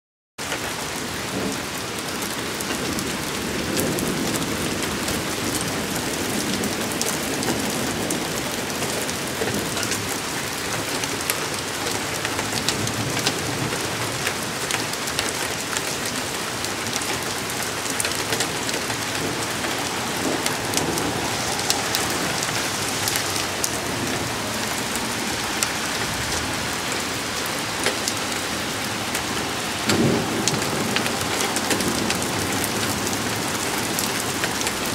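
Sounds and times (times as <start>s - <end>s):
heavy rain pouring: 0.4s - 34.9s
thunder rumbling: 1.1s - 34.9s
raindrops ticking on railing: 1.4s - 34.9s.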